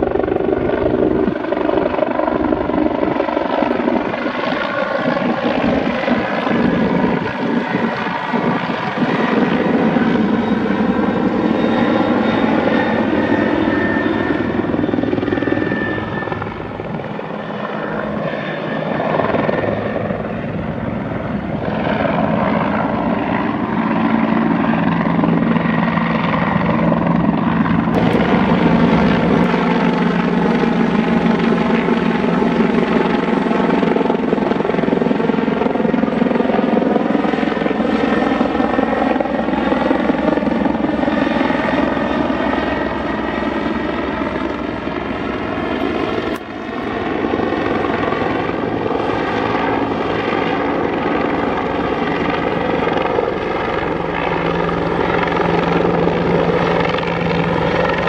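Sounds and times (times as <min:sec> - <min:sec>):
helicopter flying overhead: 0:00.0 - 0:58.0.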